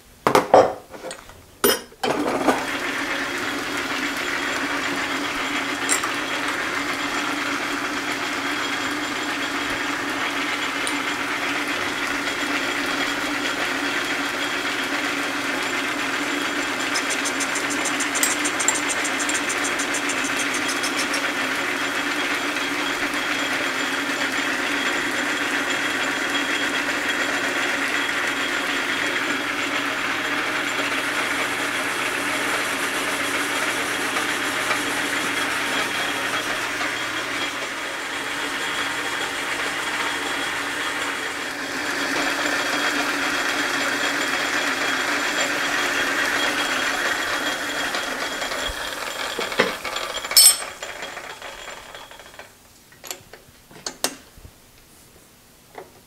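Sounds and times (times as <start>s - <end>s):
metal lathe running: 2.4s - 52.5s.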